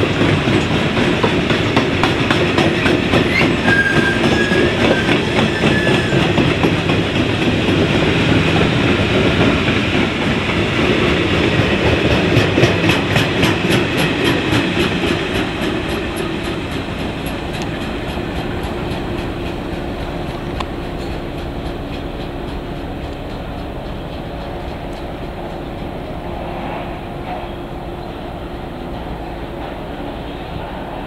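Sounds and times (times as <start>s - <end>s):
wheels clicking over rail joints: 0.0s - 26.2s
train wheels rumbling on rail: 0.0s - 31.0s.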